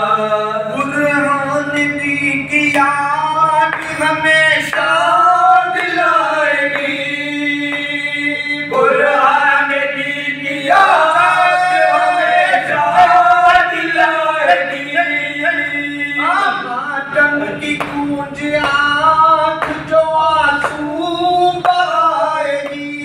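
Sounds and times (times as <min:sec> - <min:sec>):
men singing a lament: 0:00.0 - 0:23.0.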